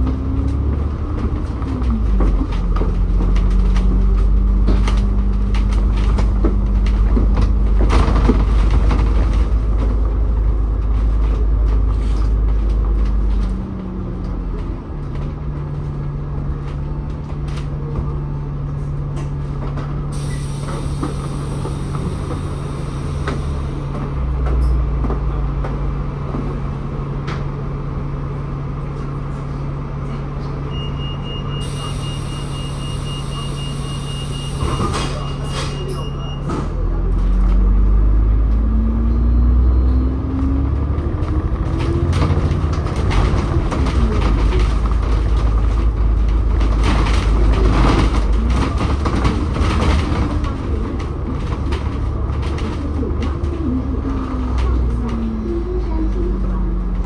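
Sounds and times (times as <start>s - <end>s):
bus engine accelerating: 0.0s - 57.0s
bus engine idling: 0.0s - 57.0s.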